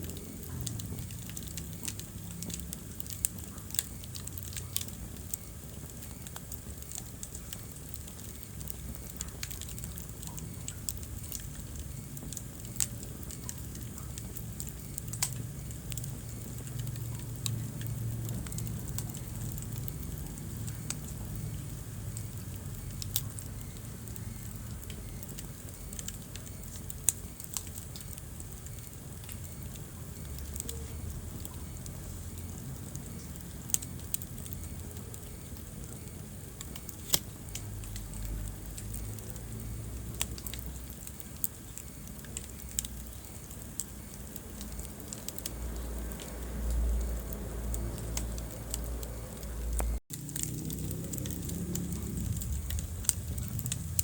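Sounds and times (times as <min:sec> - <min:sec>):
burning wood crackling and popping: 0:00.0 - 0:54.0
fire rumbling in fireplace: 0:00.0 - 0:54.0.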